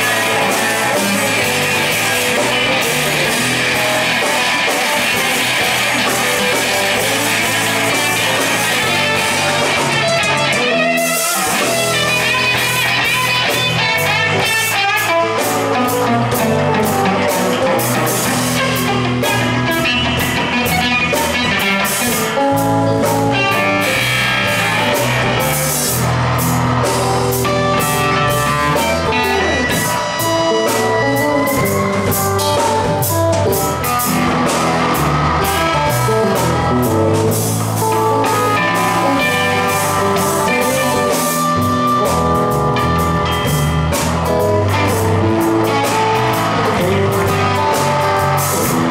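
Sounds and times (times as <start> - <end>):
drum kit: 0.0 - 48.9
electric and acoustic guitars: 0.0 - 48.9.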